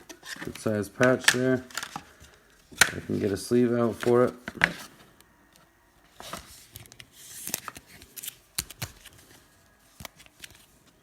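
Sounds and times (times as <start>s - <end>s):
plastic card sleeve rustling: 0.0s - 5.3s, 6.1s - 11.0s.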